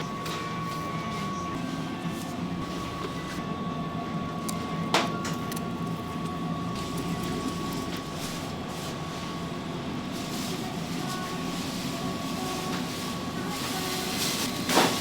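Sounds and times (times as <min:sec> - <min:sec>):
machine hum with high tone: 0:00.0 - 0:15.0.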